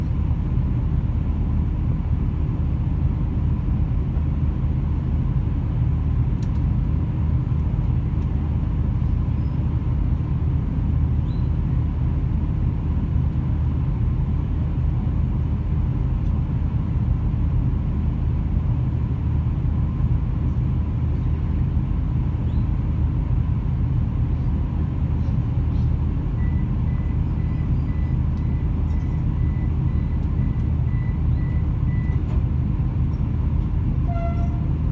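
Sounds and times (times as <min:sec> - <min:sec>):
train engine hum and rumble: 0:00.0 - 0:34.9.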